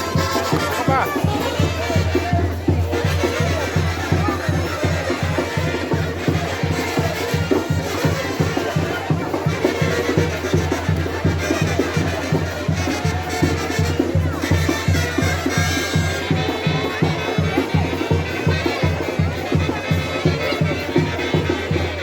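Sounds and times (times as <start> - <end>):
live band music: 0.0 - 22.0.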